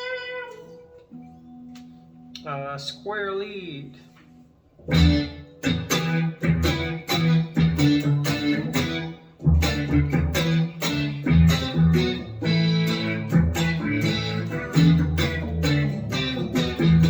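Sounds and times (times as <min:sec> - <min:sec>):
synth lead guitar notes: 0:00.0 - 0:17.0.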